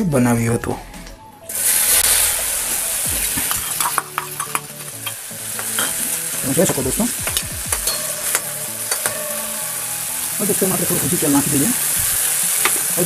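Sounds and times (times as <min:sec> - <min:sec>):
onion sizzling in hot oil: 0:01.5 - 0:13.0.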